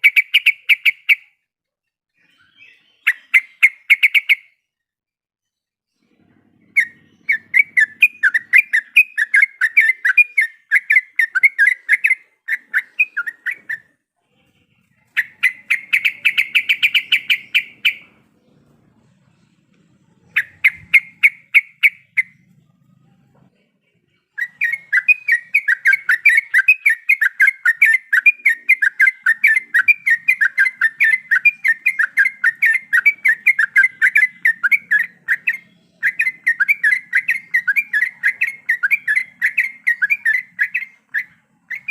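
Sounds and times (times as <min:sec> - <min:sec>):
bulbul singing: 0:00.0 - 0:01.4, 0:02.2 - 0:04.8, 0:06.4 - 0:14.0, 0:14.7 - 0:23.0, 0:24.0 - 0:41.9.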